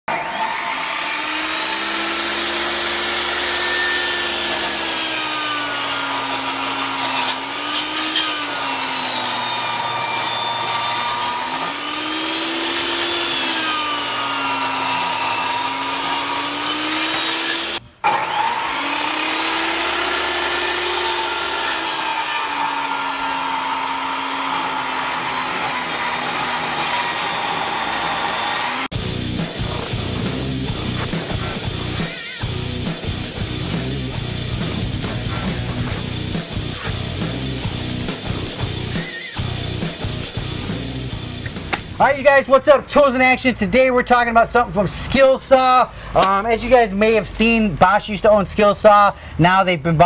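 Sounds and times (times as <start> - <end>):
table saw cutting wood: 0.1 - 42.1.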